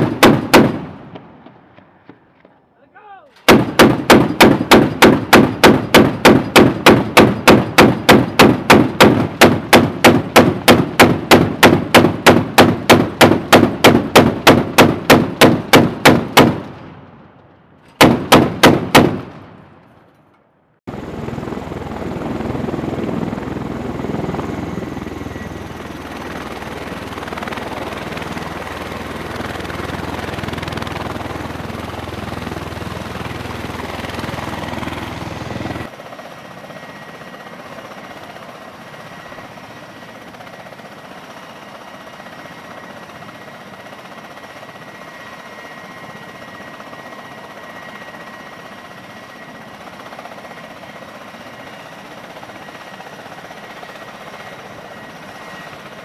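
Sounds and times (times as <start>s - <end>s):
aircraft engines and rotors running: 0.0s - 56.0s.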